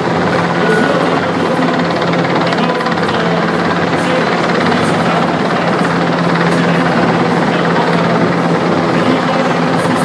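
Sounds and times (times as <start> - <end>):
helicopter rotor and turbine: 0.0 - 10.0.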